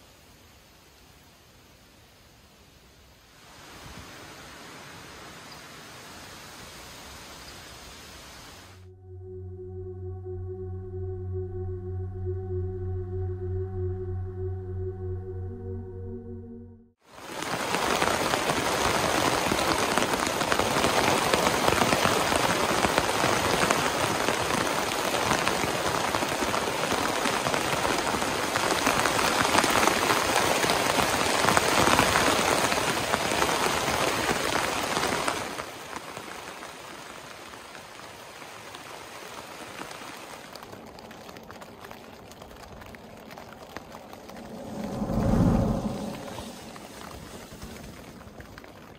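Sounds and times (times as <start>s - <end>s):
heavy rain on a tent: 0.0s - 8.8s, 17.0s - 44.7s, 46.0s - 48.9s.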